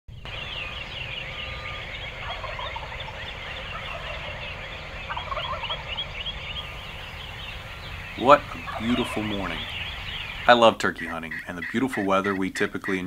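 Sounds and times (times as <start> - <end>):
songbirds chirping: 0.1 - 13.0
turkey gobbling: 0.3 - 13.0.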